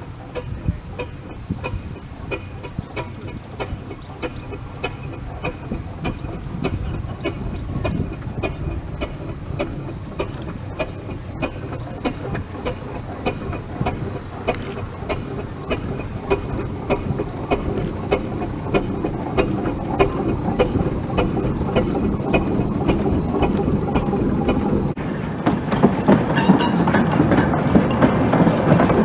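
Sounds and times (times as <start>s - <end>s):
steam locomotive approaching: 0.0s - 29.0s
steam traction engine running: 0.0s - 29.0s.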